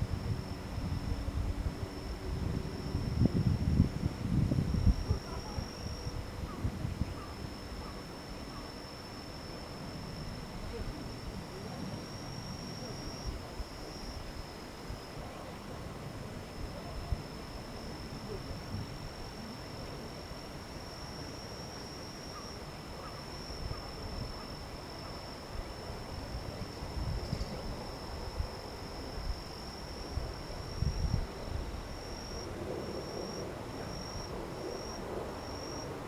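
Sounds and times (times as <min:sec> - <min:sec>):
insect high-pitched trill: 0:00.0 - 0:36.0.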